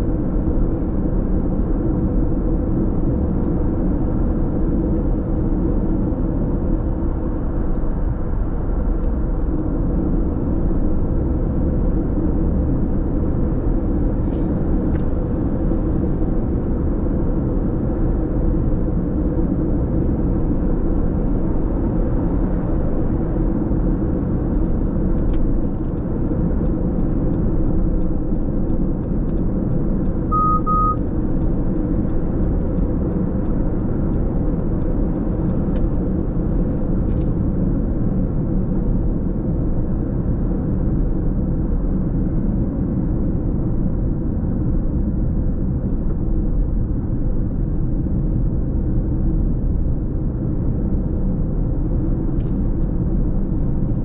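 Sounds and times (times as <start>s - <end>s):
road and tyre rumble inside car: 0.0s - 54.0s.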